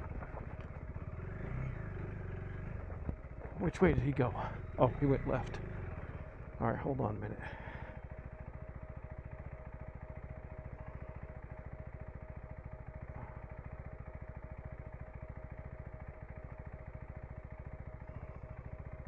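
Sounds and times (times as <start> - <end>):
motorcycle engine idling: 0.0 - 19.0
thin steady whine: 0.0 - 19.0.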